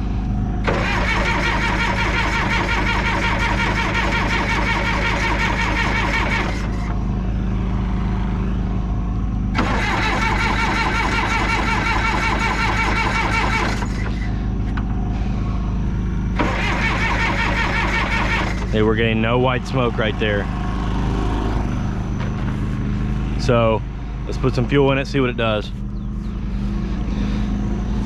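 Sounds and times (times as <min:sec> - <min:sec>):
diesel engine cranking by starter: 0:00.0 - 0:28.0.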